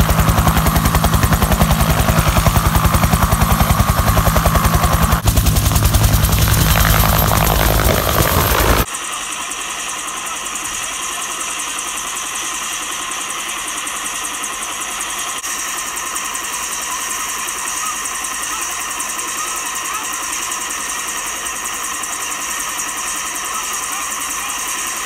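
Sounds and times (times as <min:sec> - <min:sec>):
helicopter turbine engine whine: 0:00.0 - 0:25.0.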